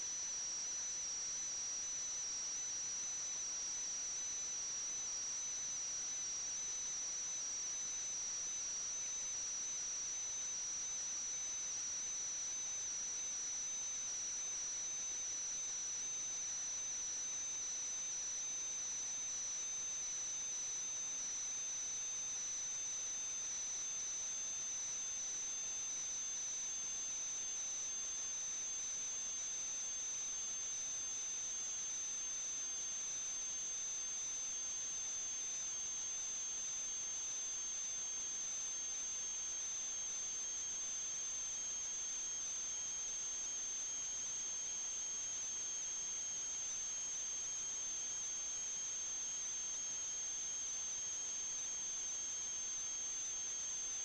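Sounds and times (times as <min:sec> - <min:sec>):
steady high-pitched whine: 0:00.0 - 0:54.0.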